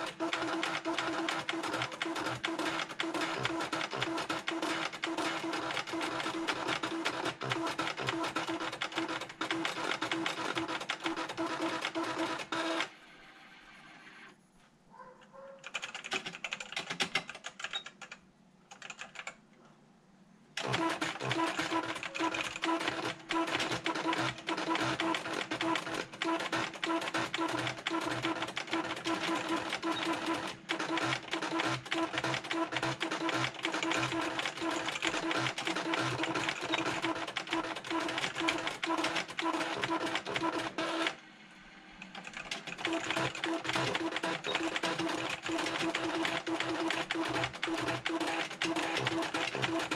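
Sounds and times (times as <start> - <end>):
typewriter mechanism clattering: 0.0 - 12.5, 15.6 - 19.3, 20.6 - 40.8, 42.0 - 49.9
typewriter keystrokes: 0.0 - 12.9, 15.6 - 19.4, 20.6 - 41.2, 42.0 - 49.9.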